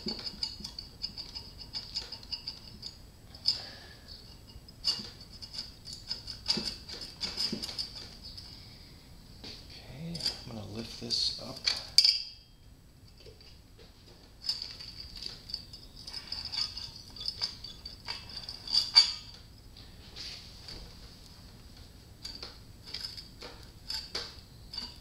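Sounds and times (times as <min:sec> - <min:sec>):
metallic clinks and rattles: 0:00.0 - 0:08.6, 0:10.1 - 0:19.6, 0:22.2 - 0:25.0.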